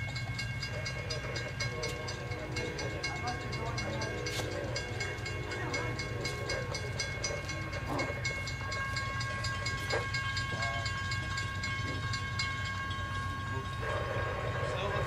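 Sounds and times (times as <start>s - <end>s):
freight train rumbling: 0.0s - 15.0s
rapid ringing bell: 0.0s - 15.0s.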